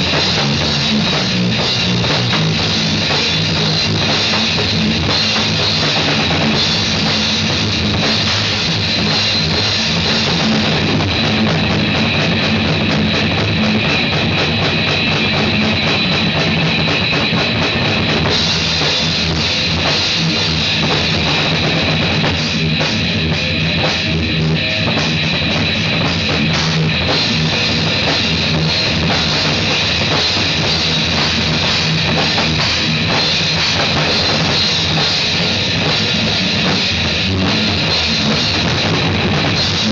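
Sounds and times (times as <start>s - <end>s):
drum hits: 0.0s - 39.9s
loud rock music: 0.0s - 39.9s.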